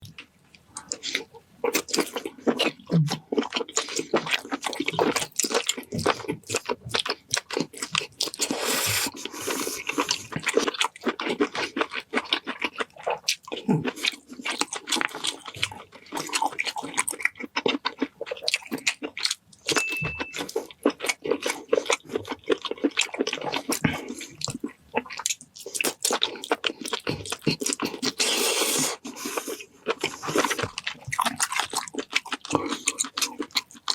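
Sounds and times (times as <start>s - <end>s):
person chewing and crunching food: 0.0s - 33.9s.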